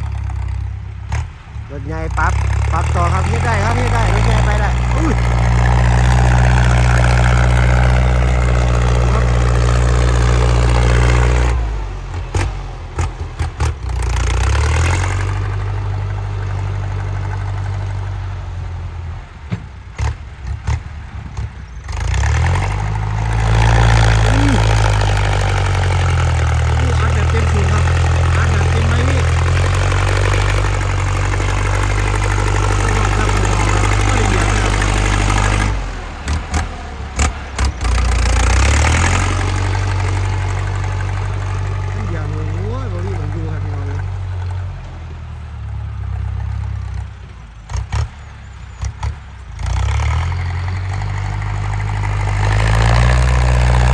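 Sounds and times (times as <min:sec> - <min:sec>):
tractor diesel engine working hard: 0:00.0 - 0:53.9.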